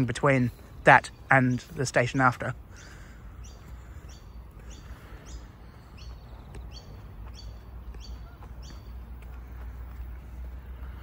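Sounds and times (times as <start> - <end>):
bird chirping: 0.0 - 10.5.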